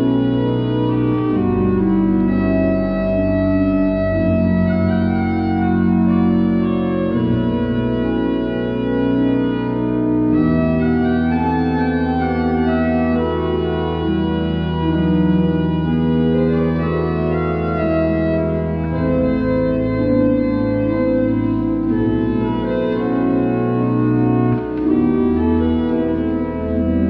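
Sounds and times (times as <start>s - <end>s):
organ chords: 0.0s - 27.0s.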